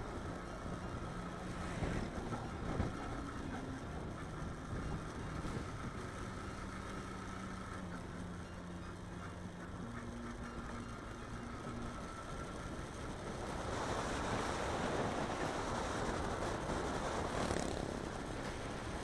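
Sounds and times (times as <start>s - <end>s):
motorcycle engine cruising: 0.0s - 19.0s
road and wind noise: 0.0s - 19.0s.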